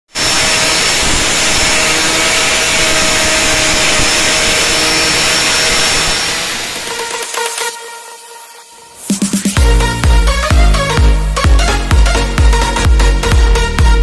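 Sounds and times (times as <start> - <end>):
angle grinder sanding wood: 0.1 - 12.4.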